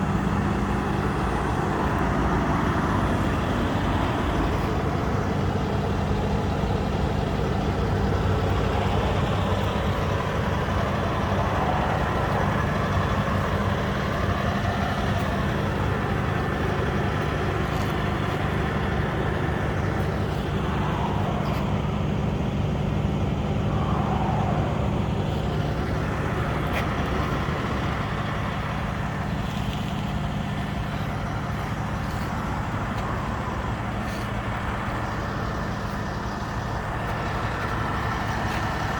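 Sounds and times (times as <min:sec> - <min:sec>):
large engine humming: 0:00.0 - 0:38.9
road traffic noise: 0:00.0 - 0:38.9
vehicle passing by: 0:07.5 - 0:38.9.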